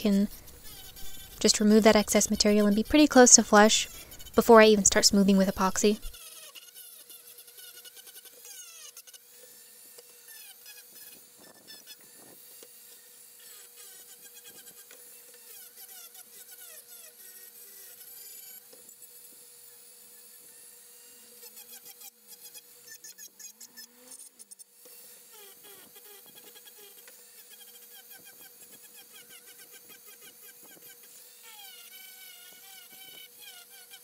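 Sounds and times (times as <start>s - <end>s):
rotary tool sanding plastic: 0.0s - 34.0s.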